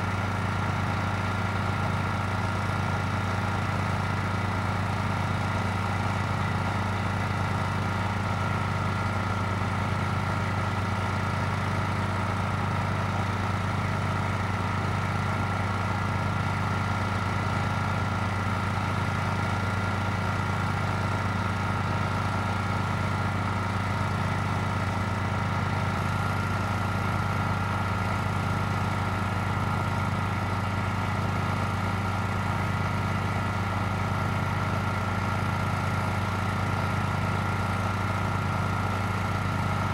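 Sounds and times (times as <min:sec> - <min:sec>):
engine idling with throb: 0:00.0 - 0:39.9.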